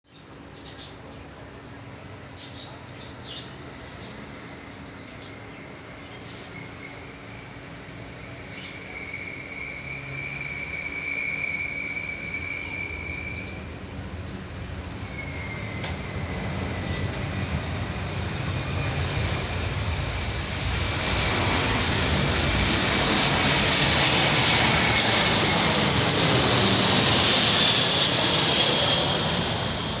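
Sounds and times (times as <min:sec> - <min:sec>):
jet engines approaching: 0:00.2 - 0:30.0
high jet whine: 0:01.3 - 0:30.0.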